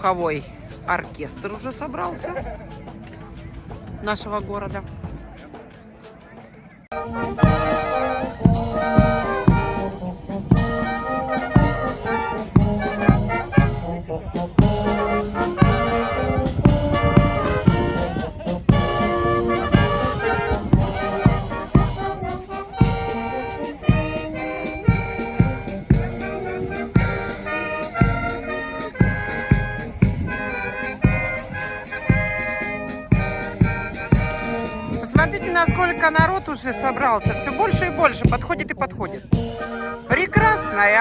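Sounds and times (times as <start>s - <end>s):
brass band playing: 6.9s - 41.0s.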